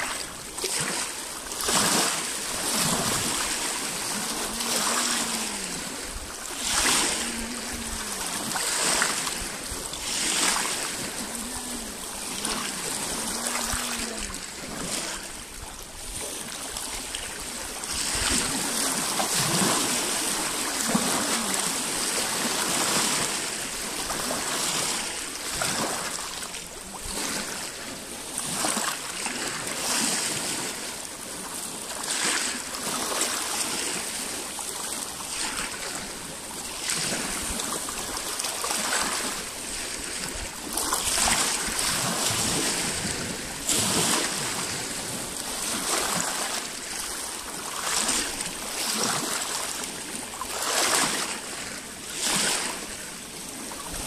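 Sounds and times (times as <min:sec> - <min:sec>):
waves lapping on rocky shore: 0:00.0 - 0:54.0.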